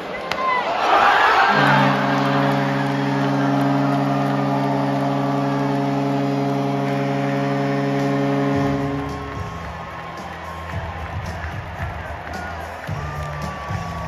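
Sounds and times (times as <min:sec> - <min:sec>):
crowd cheering: 0:00.0 - 0:14.0
goal horn chord: 0:01.5 - 0:13.4.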